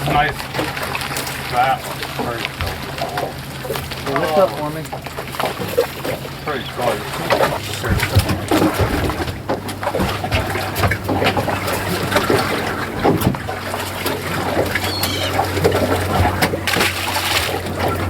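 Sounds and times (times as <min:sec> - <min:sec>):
steady low hum: 0:00.0 - 0:18.0
water sloshing around boat: 0:00.0 - 0:18.0.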